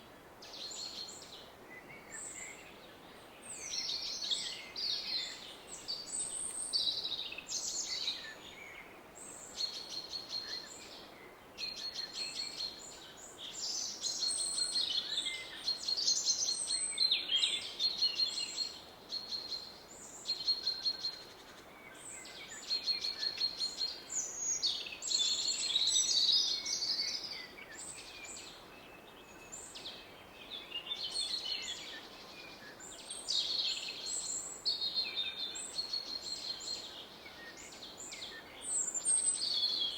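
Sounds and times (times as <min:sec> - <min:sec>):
songbirds singing and calling: 0:00.2 - 0:39.9.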